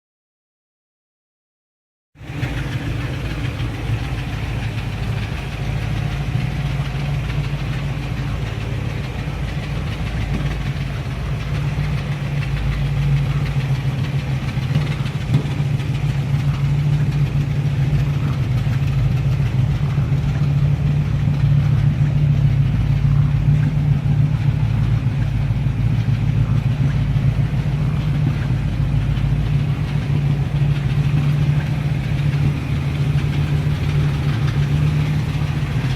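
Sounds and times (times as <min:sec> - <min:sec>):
car engine idling: 0:02.2 - 0:35.9.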